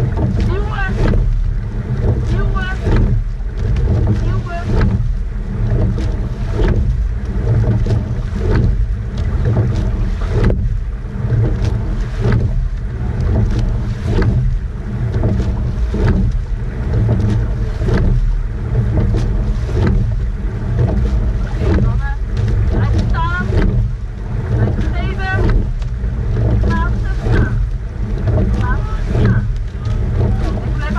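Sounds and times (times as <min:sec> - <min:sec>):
oars knocking in oarlocks: 0:00.0 - 0:30.9
water rushing along hull: 0:00.0 - 0:30.9
wind on microphone: 0:00.0 - 0:30.9.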